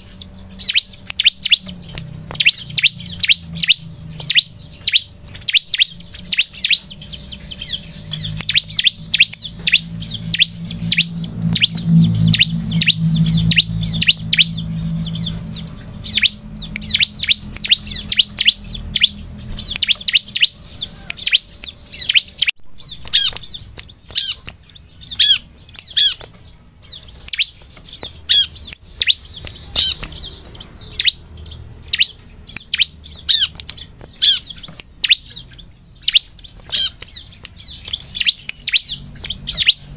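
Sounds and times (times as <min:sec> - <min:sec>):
bird chirping: 0:00.0 - 0:39.9
low hum: 0:00.0 - 0:39.9.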